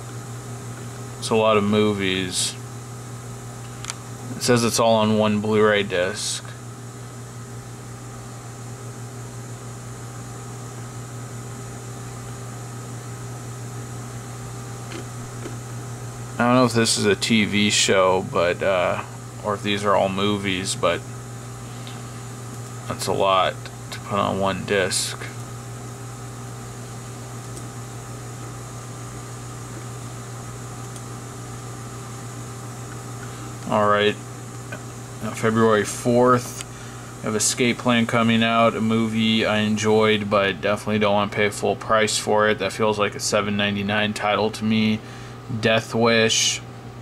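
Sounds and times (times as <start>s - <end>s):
low hum with hiss: 0.0s - 47.0s.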